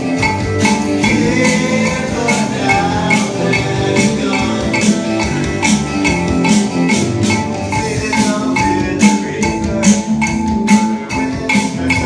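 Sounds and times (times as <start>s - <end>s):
cowbell struck with drumstick: 0.0s - 12.0s
music with steady beat: 0.0s - 12.0s.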